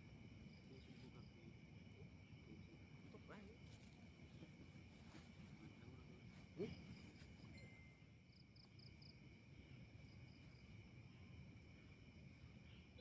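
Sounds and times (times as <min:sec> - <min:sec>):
cricket chirps: 0:00.0 - 0:13.0
crickets droning: 0:00.0 - 0:13.0.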